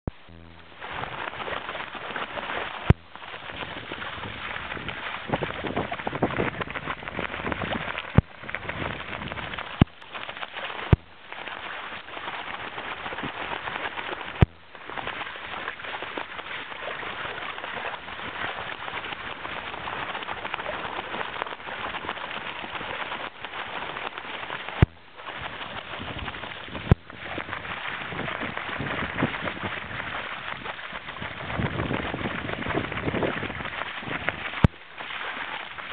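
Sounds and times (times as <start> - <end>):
wind: 0.0 - 35.9
rushing water: 0.1 - 35.9.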